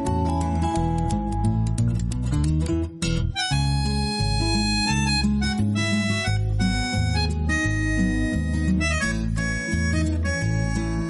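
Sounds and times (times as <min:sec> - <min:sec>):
instrumental music with guitar and bass: 0:00.0 - 0:11.0.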